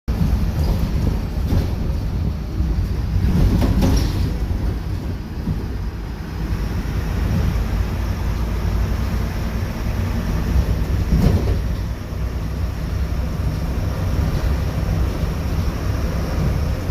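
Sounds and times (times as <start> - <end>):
bus engine and road rumble: 0.1 - 16.9.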